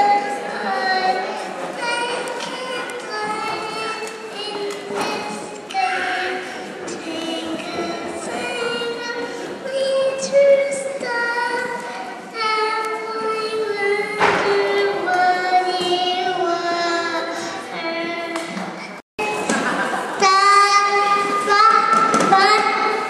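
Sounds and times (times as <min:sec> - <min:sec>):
girl singing into a microphone: 0:00.0 - 0:18.6, 0:20.2 - 0:23.0.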